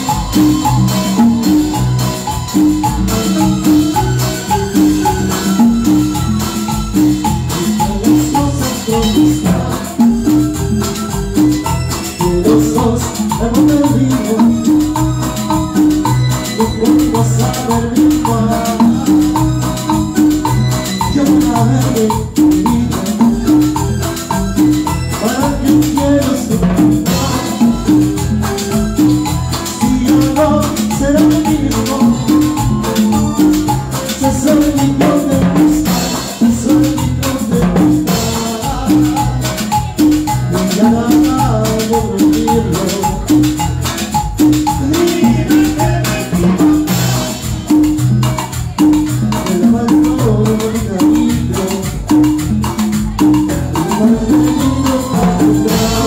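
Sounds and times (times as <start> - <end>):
keyboard melody: 0.0 - 56.0
latin dance band playing: 0.0 - 56.0.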